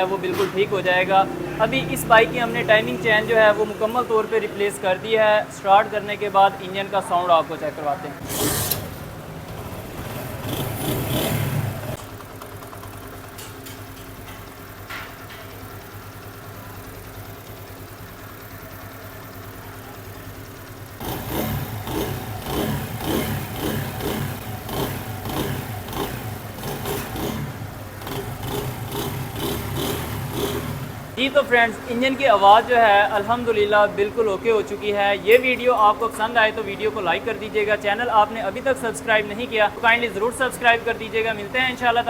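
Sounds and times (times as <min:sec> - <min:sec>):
motorcycle engine revving and idling: 0:00.0 - 0:42.0.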